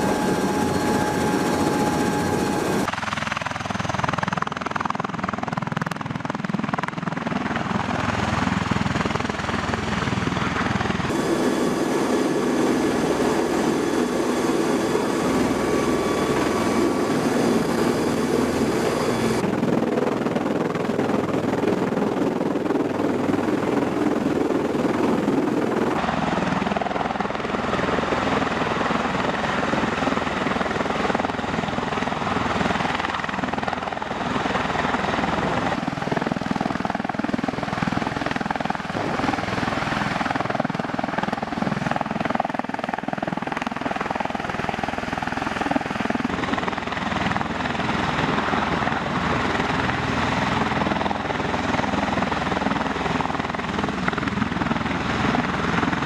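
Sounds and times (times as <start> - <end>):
tiltrotor aircraft hovering: 0.0 - 56.0.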